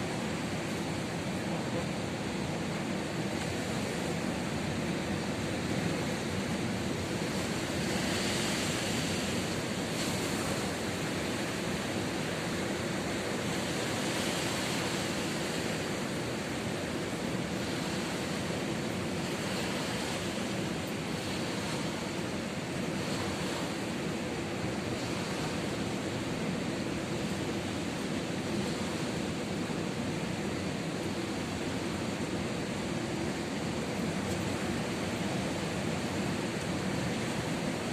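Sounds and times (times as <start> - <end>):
waves breaking on beach: 0.0 - 37.9.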